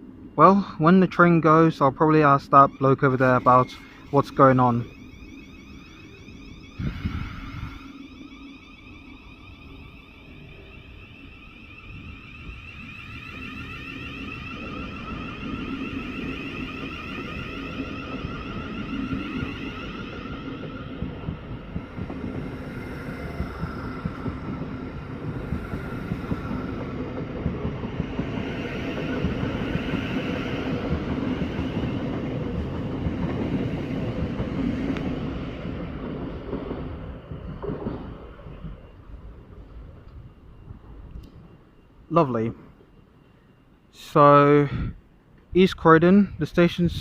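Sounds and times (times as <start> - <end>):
electric train traction whine: 0.0 - 47.0
low train rumble: 0.0 - 47.0.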